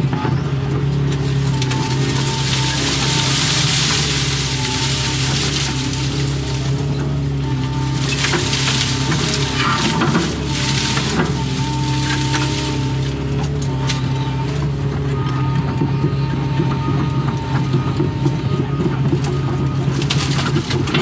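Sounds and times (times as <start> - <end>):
excavator diesel engine: 0.0 - 21.0
hydraulic whine: 0.0 - 21.0.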